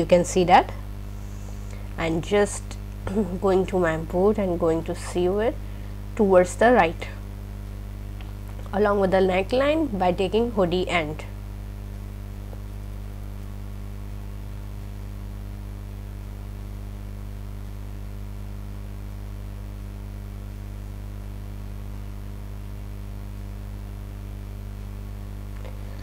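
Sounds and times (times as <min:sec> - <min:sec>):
low electric hum: 0:00.0 - 0:26.0.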